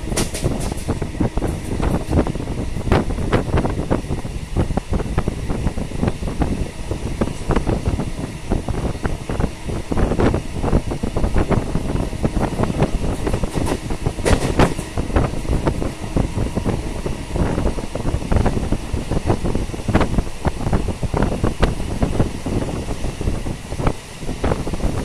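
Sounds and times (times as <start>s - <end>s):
train wheels clattering on rails: 0.0s - 25.0s
wind rushing: 0.0s - 25.0s.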